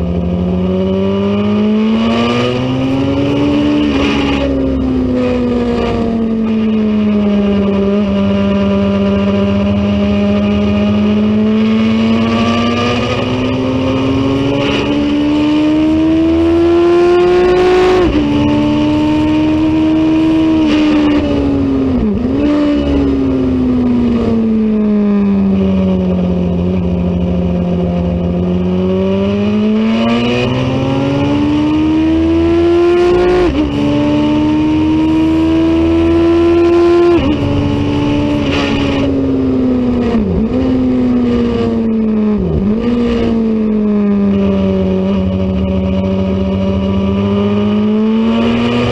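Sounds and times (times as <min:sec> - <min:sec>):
racing motorcycle engine revving: 0:00.0 - 0:48.9.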